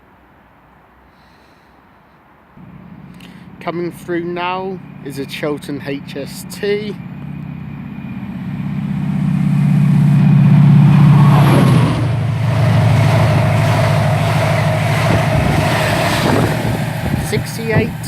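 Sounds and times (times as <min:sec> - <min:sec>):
diesel train engine passing: 0:02.6 - 0:18.0
train coaches rumbling: 0:02.6 - 0:18.0.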